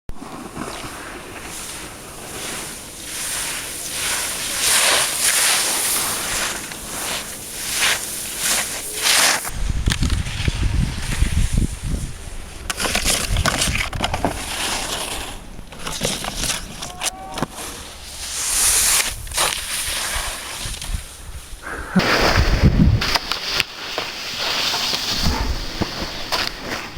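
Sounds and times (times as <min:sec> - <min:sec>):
skis scraping over snow: 0:00.1 - 0:26.9
wind rumbling on microphone: 0:00.2 - 0:15.8, 0:16.5 - 0:24.2, 0:25.0 - 0:26.9.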